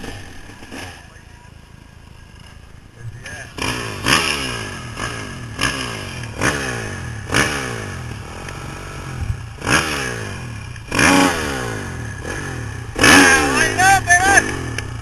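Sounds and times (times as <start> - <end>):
dirt bike engine revving: 0.0 - 1.3, 2.5 - 15.0.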